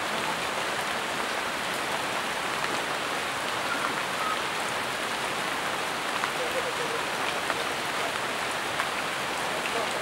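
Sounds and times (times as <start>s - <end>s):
rain on foliage: 0.0s - 10.0s.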